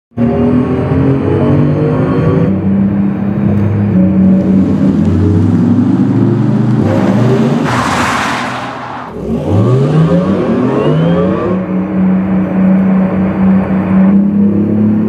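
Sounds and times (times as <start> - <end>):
car accelerating: 0.3 - 15.0.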